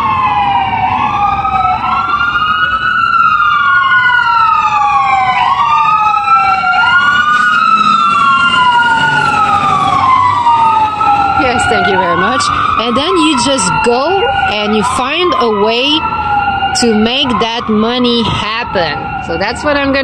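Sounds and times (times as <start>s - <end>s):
low engine rumble: 0.0s - 19.3s
fire engine siren wailing: 0.0s - 20.0s.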